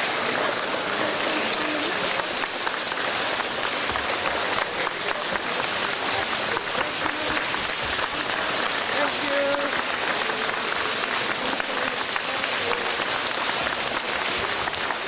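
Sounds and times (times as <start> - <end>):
crowd applause: 0.0 - 15.0
voices: 0.0 - 15.0.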